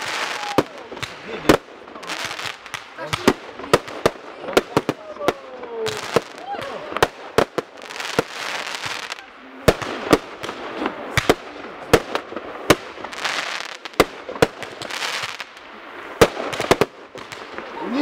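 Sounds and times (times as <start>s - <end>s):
crackling hiss of fireworks: 0.0s - 18.0s
fireworks bangs: 0.0s - 18.0s.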